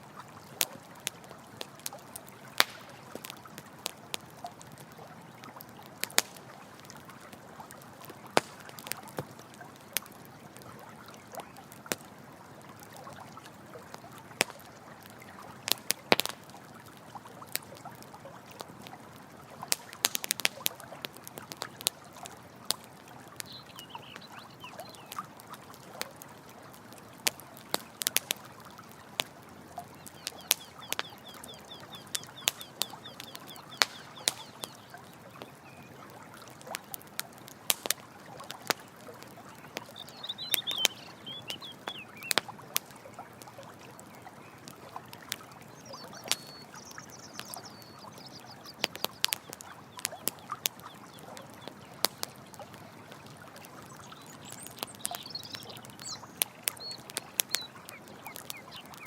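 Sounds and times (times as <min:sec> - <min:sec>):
campfire crackling and popping: 0:00.0 - 0:59.0
running water: 0:00.0 - 0:59.0.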